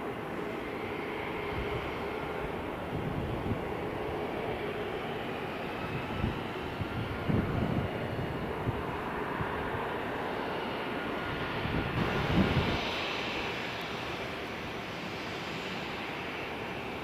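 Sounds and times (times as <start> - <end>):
jet engines running: 0.0 - 17.0
wind buffeting microphone: 0.7 - 15.8.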